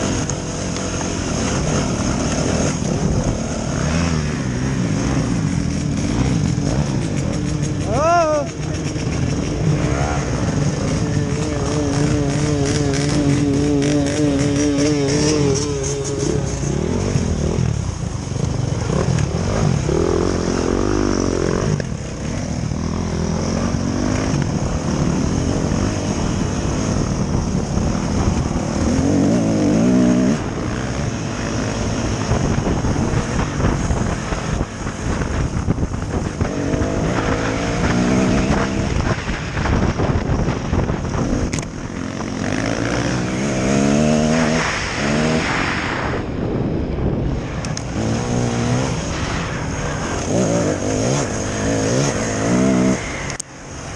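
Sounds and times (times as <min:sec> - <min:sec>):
dirt bike engine revving: 0:00.0 - 0:46.3, 0:47.4 - 0:53.9.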